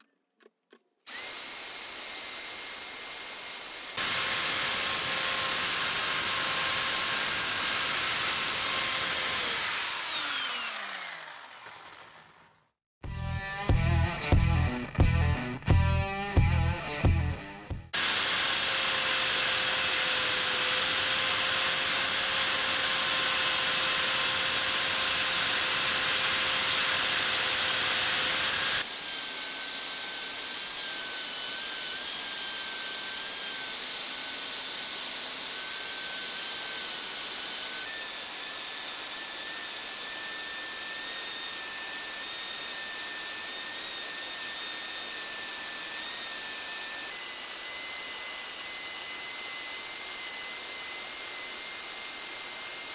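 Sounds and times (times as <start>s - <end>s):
power tool whining: 0.0s - 12.6s, 18.0s - 52.9s.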